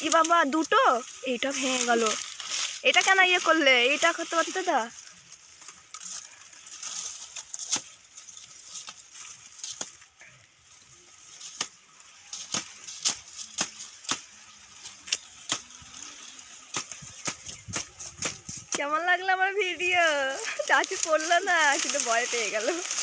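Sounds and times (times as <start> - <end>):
dry leaves crackling and snapping: 0.0 - 23.0.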